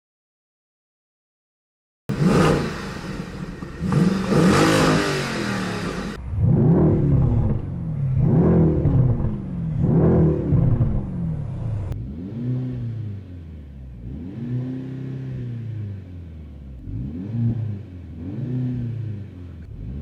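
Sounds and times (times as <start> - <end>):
car engine revving: 2.1 - 20.0.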